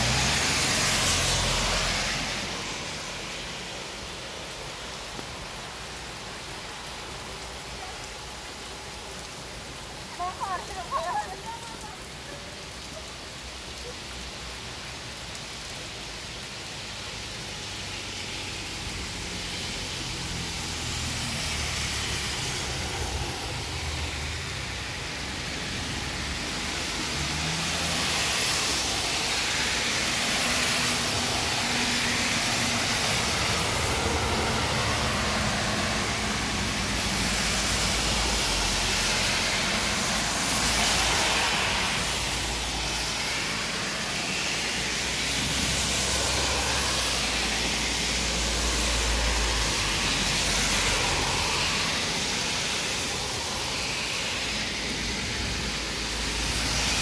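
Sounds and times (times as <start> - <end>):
cars passing on wet road: 0.0 - 57.0
heavy rain on street: 0.0 - 57.0.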